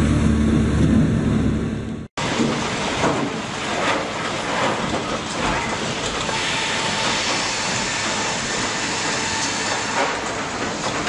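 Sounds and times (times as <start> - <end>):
log conveyor and crane din: 0.1 - 11.0.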